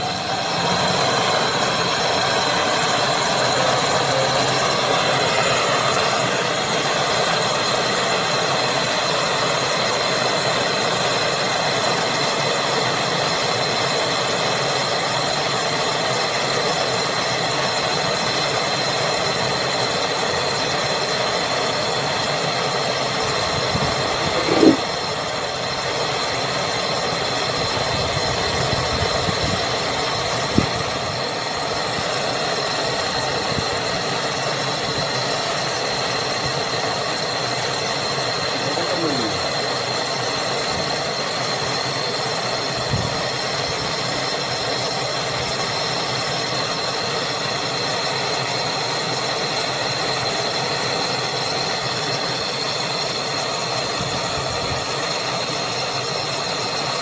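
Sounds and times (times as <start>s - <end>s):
brazing torch flame rushing: 0.0s - 57.0s.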